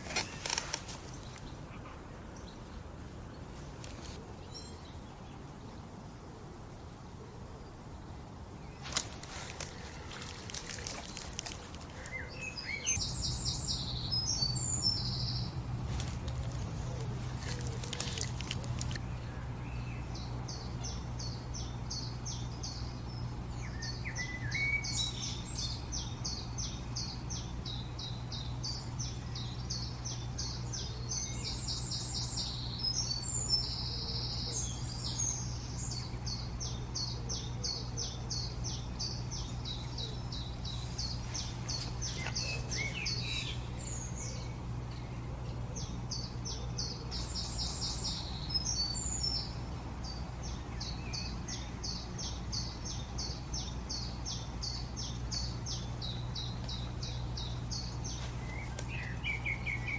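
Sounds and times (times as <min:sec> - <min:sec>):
songbirds chirping and trilling: 0:00.0 - 0:59.9
steady low hum: 0:00.0 - 0:59.9.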